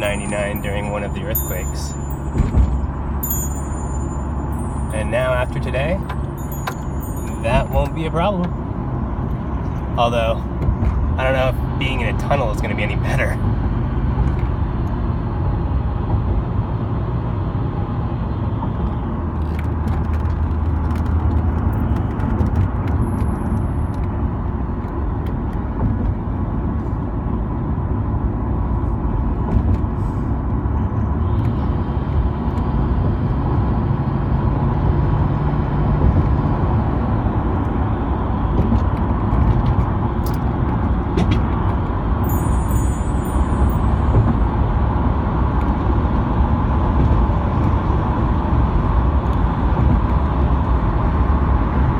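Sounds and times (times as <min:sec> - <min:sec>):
car engine and tyre road noise: 0:00.0 - 0:51.9
passing traffic hum: 0:00.0 - 0:51.9.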